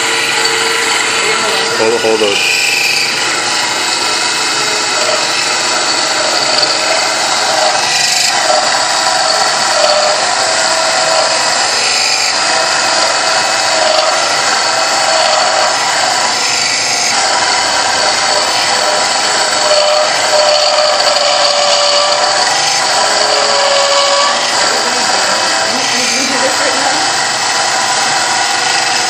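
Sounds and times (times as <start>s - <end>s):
lathe motor humming: 0.0s - 29.0s
tool cutting metal: 0.0s - 29.0s.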